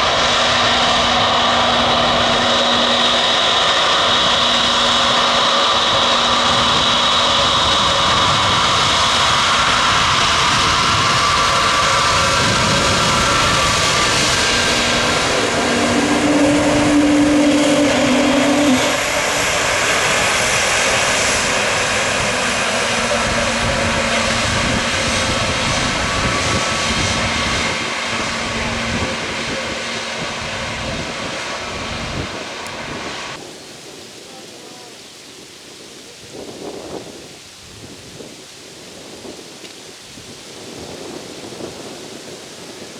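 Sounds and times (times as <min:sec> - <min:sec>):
airplane engines passing: 0:00.0 - 0:42.9.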